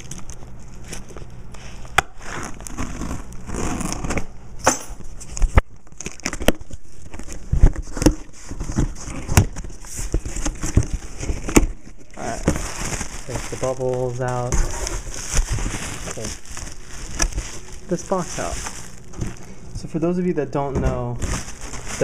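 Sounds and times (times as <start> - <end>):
plastic wrapping crinkling: 0.0 - 4.2, 5.0 - 19.8, 21.1 - 22.0.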